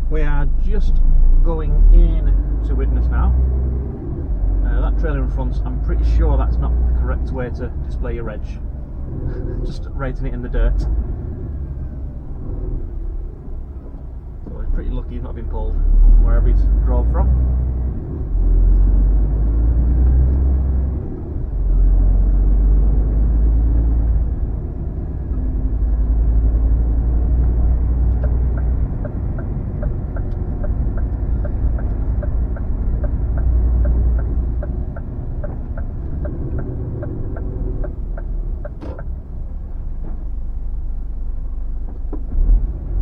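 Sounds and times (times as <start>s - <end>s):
diesel engine rumble: 0.0s - 43.0s
road noise: 0.0s - 43.0s
turn signal clicking: 3.7s - 15.6s, 17.0s - 43.0s.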